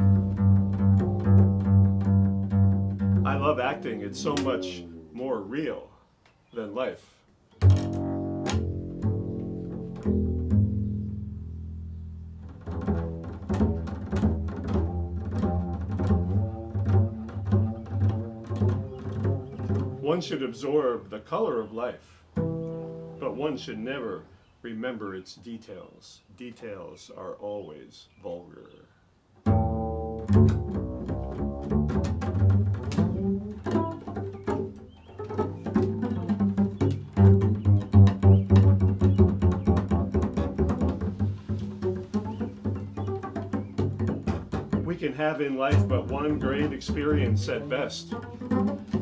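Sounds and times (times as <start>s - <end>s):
upright double bass improvising: 0.0s - 6.0s, 7.5s - 24.3s, 29.4s - 49.0s.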